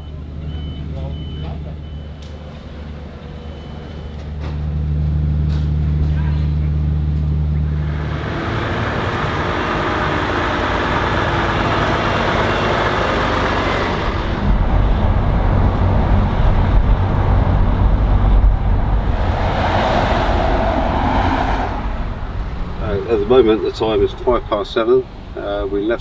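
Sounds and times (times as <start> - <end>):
heavy truck engine hum: 0.0 - 24.4
road noise: 0.0 - 26.0.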